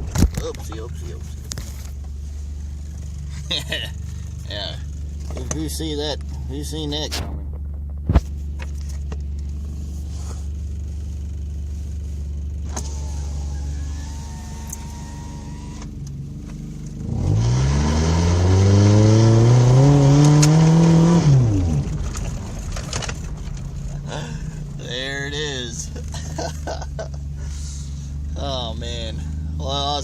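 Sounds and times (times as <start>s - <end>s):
pickup engine idling and revving: 0.0s - 30.0s.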